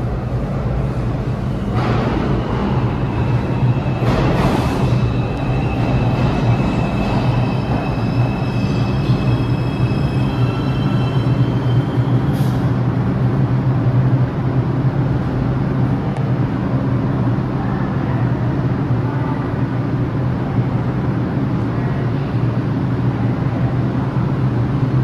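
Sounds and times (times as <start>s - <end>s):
subway train wheels rumbling on rail: 0.0s - 25.0s.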